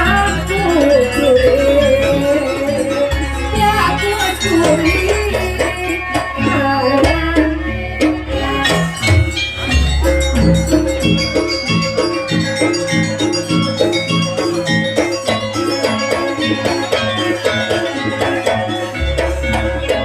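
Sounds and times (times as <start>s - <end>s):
gong-chime percussion: 0.0s - 20.0s
hand drums: 0.0s - 20.0s.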